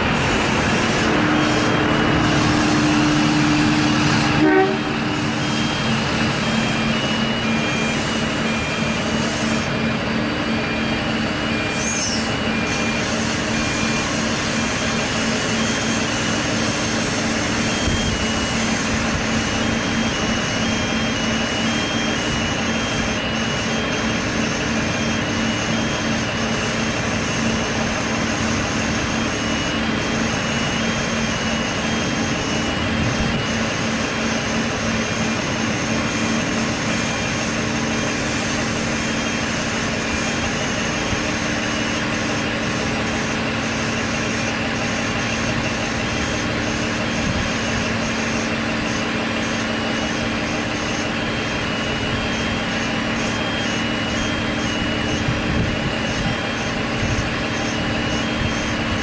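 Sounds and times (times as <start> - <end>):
train diesel engines idling: 0.0 - 59.0.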